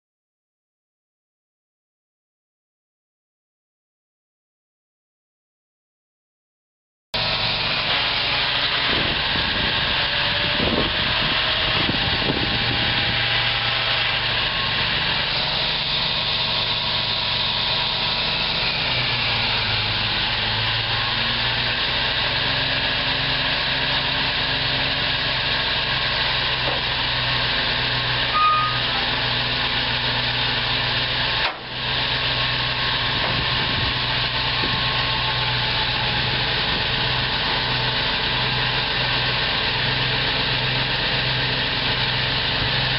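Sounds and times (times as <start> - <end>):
truck engine idling: 7.2 - 42.9.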